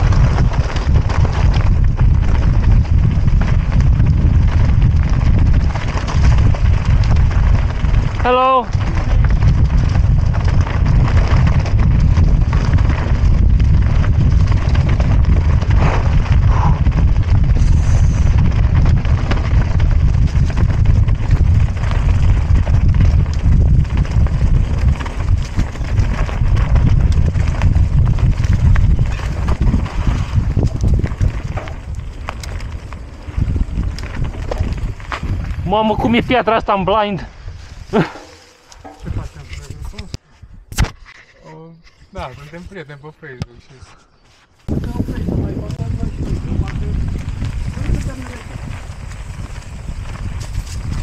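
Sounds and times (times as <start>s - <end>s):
bike rattling and knocking: 0.0s - 37.1s, 37.7s - 40.1s, 44.8s - 51.0s
wind buffeting microphone: 0.0s - 41.1s, 44.6s - 51.0s.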